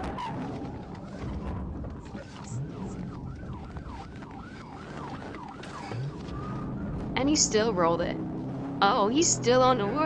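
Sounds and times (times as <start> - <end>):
low traffic rumble: 0.0 - 10.0
police siren yelping: 0.0 - 10.0.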